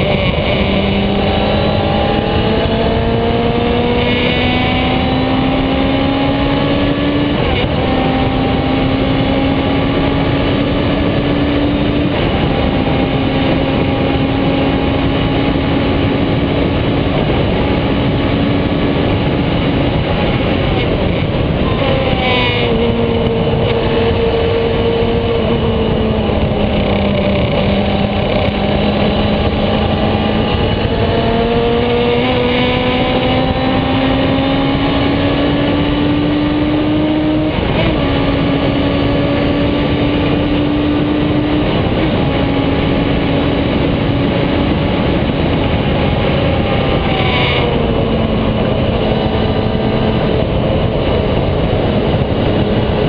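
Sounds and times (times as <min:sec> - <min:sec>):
racing car engine accelerating: 0:00.0 - 0:53.0
wind rush: 0:00.0 - 0:53.0.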